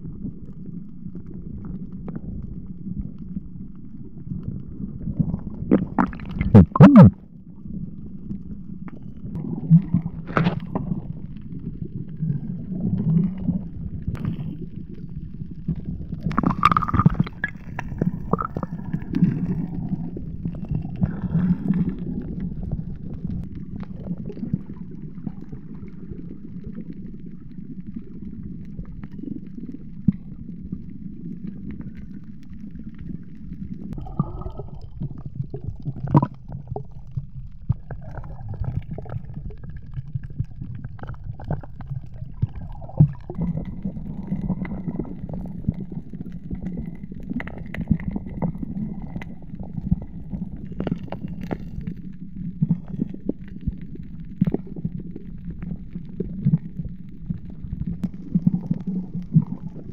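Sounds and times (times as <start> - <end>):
underwater rumble and gurgling: 0.0 - 59.9
water swishes: 0.0 - 59.9.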